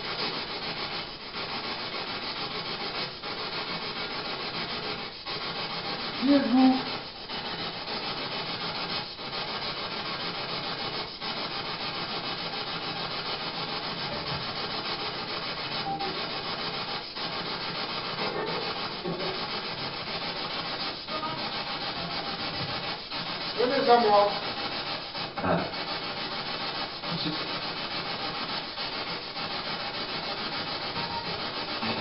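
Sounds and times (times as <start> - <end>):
steady loud hiss: 0.0 - 32.0.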